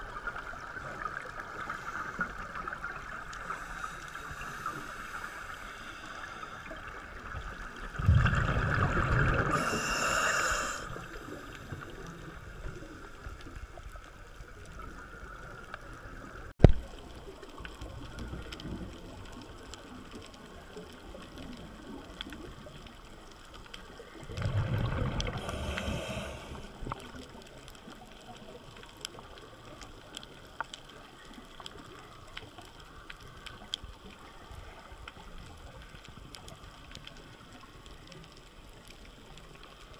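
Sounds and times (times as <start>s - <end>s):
faint crackle and hiss: 0.0s - 39.9s.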